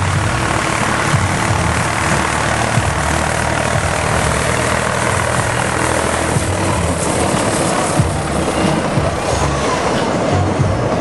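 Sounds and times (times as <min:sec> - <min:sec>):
diesel locomotive engine droning: 0:00.0 - 0:11.0
train wheels rolling: 0:00.0 - 0:11.0.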